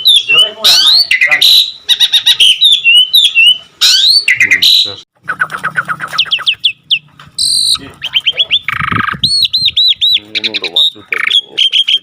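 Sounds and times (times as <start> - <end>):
myna birds calling: 0.0 - 12.0.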